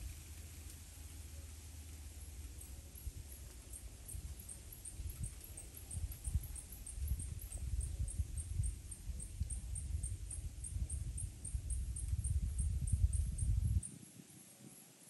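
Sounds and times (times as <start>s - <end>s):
low rumble on microphone: 0.0s - 13.9s.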